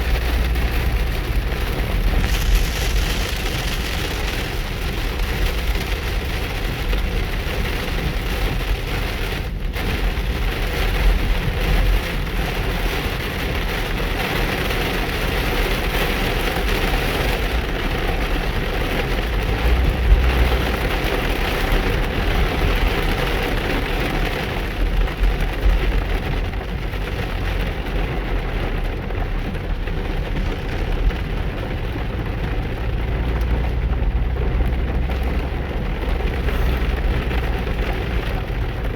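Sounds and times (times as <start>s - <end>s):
car driving in rain: 0.0s - 38.9s
heavy rain pouring: 0.0s - 38.9s.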